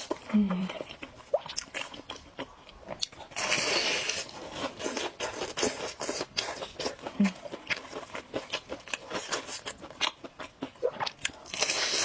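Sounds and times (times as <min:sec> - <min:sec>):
crunching and chewing food: 0:00.0 - 0:12.0.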